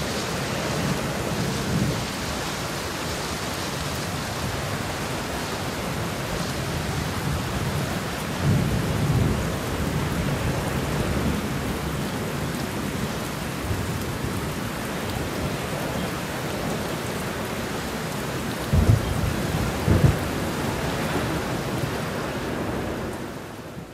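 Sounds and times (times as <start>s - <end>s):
rain on a windowsill: 0.0s - 23.9s.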